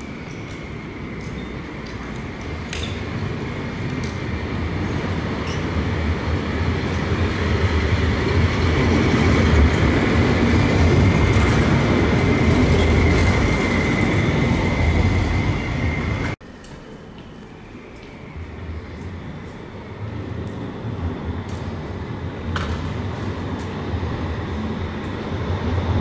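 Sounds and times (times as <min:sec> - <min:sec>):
tram rumble passing: 0:00.0 - 0:26.0.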